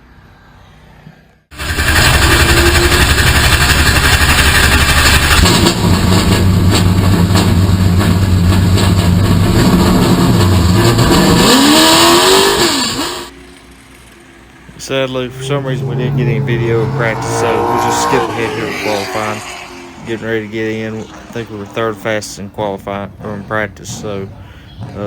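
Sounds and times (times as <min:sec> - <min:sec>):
race car engines rumbling: 0:00.0 - 0:25.0.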